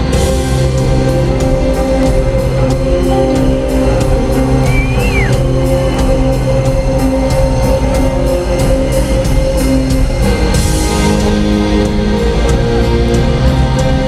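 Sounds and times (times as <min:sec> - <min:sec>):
drum kit steady beat: 0:00.0 - 0:14.0
electric guitar chords: 0:00.0 - 0:14.0.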